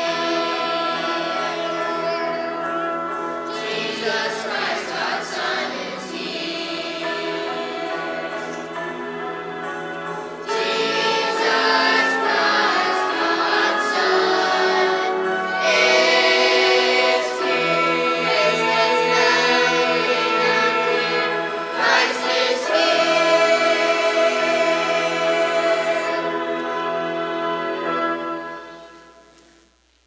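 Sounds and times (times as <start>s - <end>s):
choir singing long notes: 0.0s - 29.2s
instrumental accompaniment: 0.0s - 29.6s.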